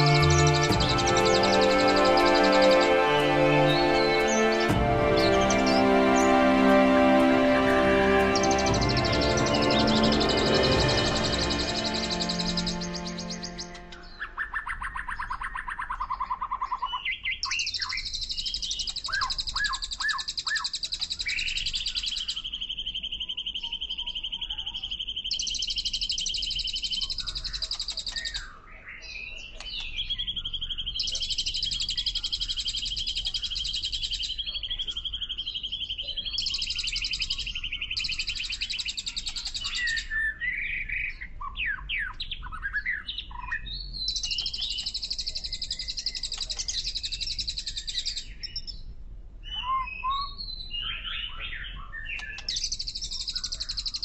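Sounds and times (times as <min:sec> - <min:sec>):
birds chirping and calling: 0:09.0 - 0:48.8, 0:49.4 - 0:54.0.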